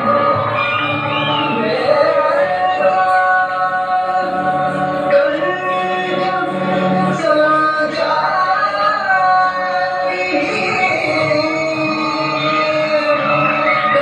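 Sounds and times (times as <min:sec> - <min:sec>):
person singing gliding held notes: 0:00.0 - 0:14.0.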